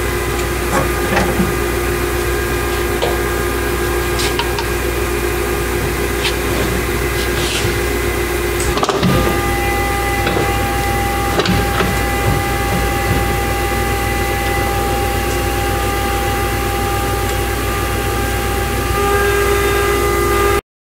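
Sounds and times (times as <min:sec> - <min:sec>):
saw motor humming and whining: 0:00.0 - 0:20.6.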